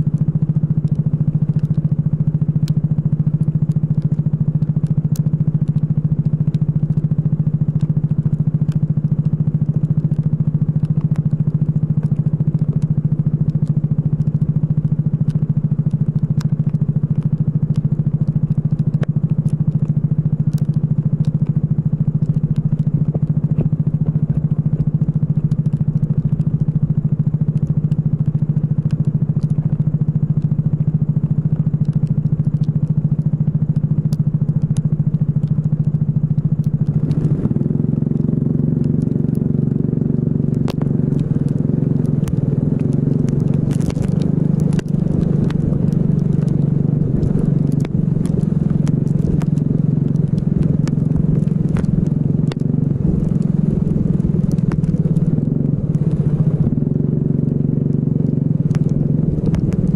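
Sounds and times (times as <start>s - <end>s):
sharp crackling clicks: 0.1s - 59.9s.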